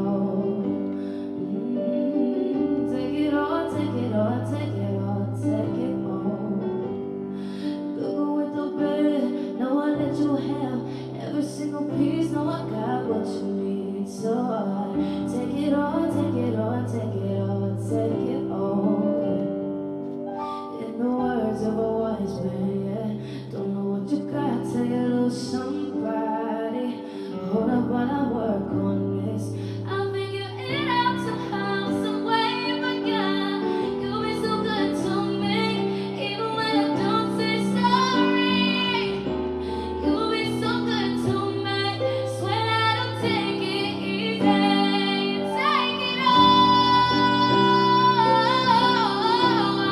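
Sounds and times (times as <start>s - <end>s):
woman singing: 0.0s - 19.7s, 20.4s - 49.9s.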